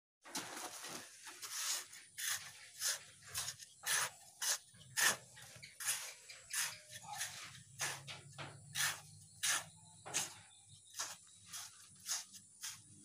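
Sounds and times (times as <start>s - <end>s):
trowel scraping sand and cement: 0.4s - 13.0s.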